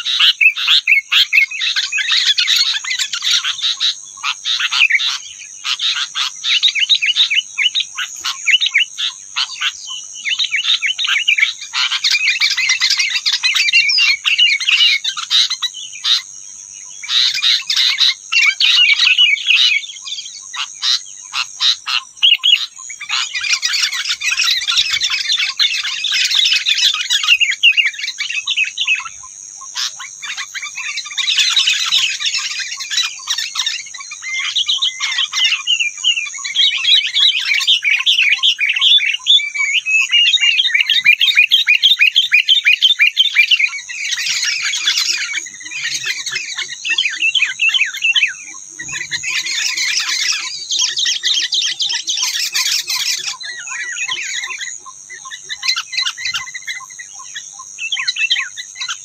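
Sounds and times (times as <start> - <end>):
songbirds chattering: 0.0 - 59.0.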